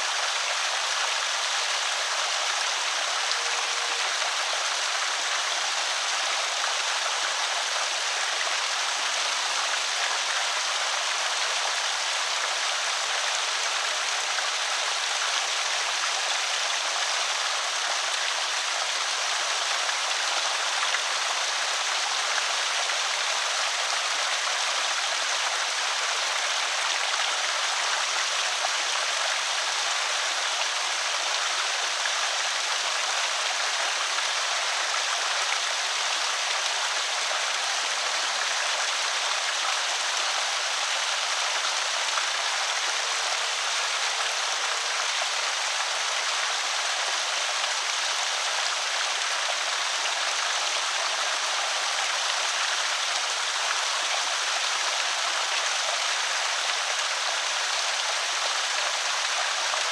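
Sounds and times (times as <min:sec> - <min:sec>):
water pouring over spillway: 0:00.0 - 0:59.9.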